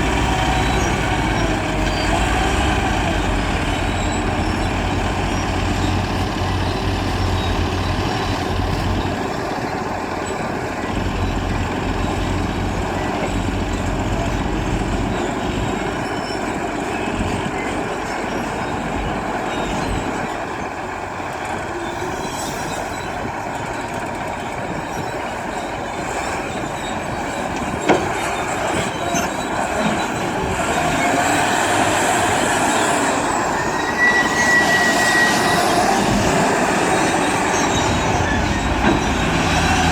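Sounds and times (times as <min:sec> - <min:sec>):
heavy diesel engines running: 0:00.0 - 0:39.9
high squeal: 0:00.0 - 0:39.9.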